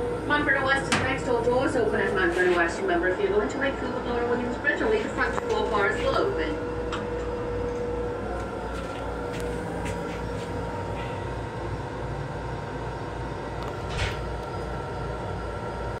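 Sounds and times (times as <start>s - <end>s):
faint steady hum: 0.0s - 16.0s
train rumble from inside: 0.0s - 16.0s.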